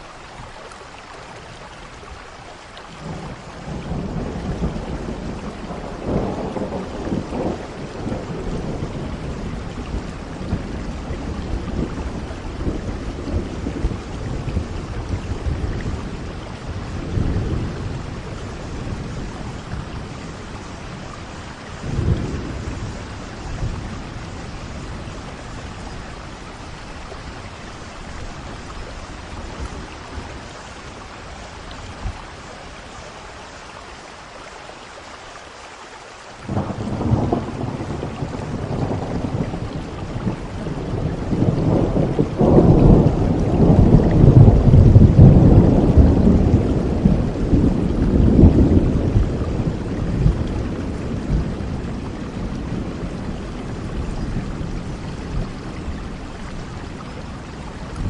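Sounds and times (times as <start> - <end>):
steady rain: 0.0 - 58.0
rolling thunder: 3.0 - 32.3, 36.4 - 58.0.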